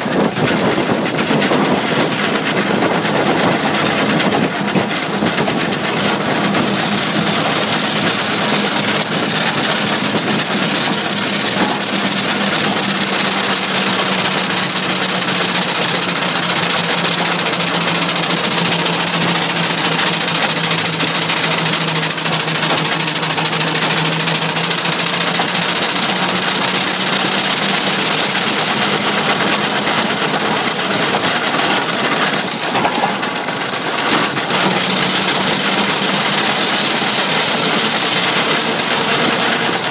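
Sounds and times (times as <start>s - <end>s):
constant engine hum: 0.0s - 39.9s
steam traction engine clatter: 0.0s - 39.9s.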